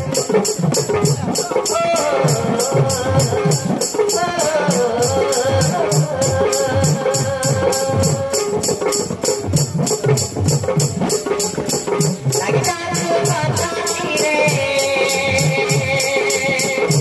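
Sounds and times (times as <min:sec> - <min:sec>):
jingling percussion: 0:00.0 - 0:17.0.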